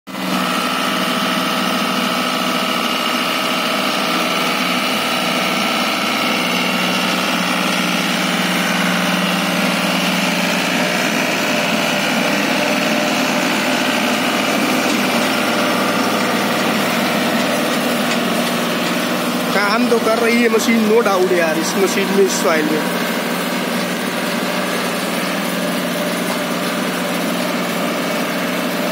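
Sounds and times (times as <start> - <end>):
tractor diesel engine under load: 0.1 - 28.9.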